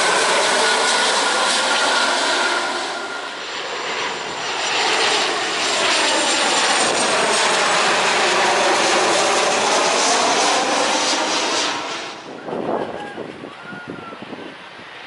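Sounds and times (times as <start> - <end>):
jet airliner roar overhead: 0.0 - 15.0.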